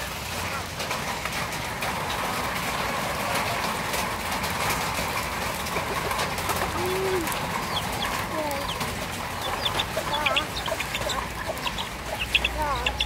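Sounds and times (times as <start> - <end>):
chickens clucking: 0.1 - 13.0.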